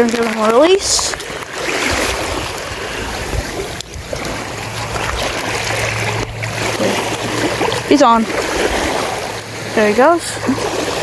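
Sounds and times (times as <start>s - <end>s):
rushing water: 0.0s - 11.0s
wind buffeting microphone: 0.0s - 11.0s.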